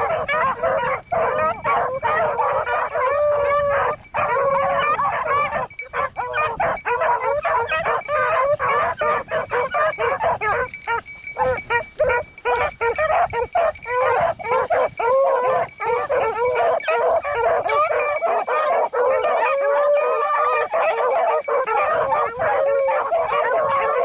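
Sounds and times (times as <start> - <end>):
dogs baying: 0.0 - 24.0.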